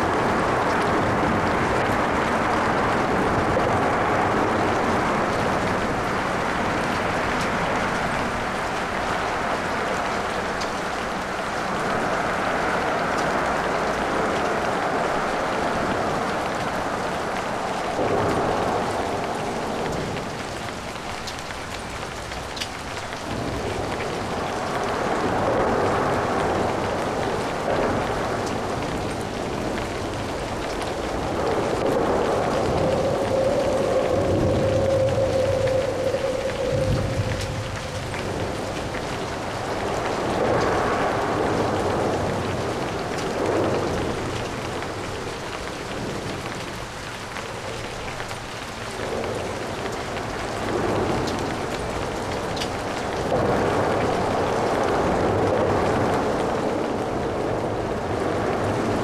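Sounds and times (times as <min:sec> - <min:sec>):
light rain pattering: 0:00.0 - 0:59.0.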